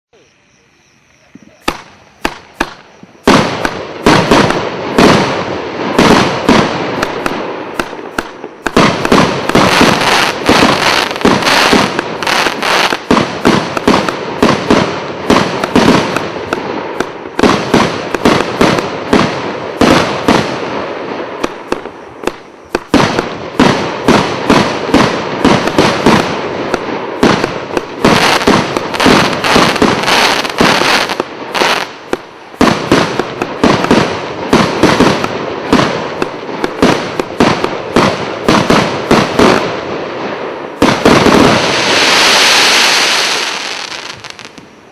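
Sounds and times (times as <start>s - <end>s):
fireworks launching and bursting: 1.2s - 44.9s.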